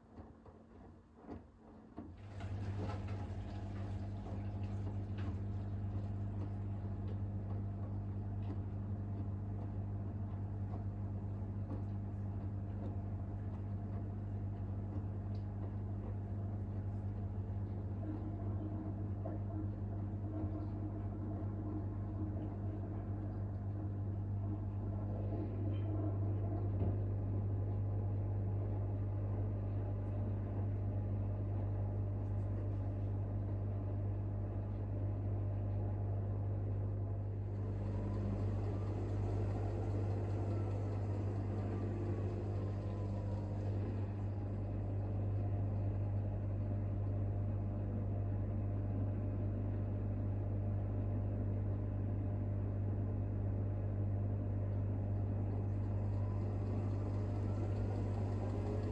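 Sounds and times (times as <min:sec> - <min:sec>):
faint motor whine: 0:00.0 - 0:58.9
washing machine running: 0:00.0 - 0:58.9.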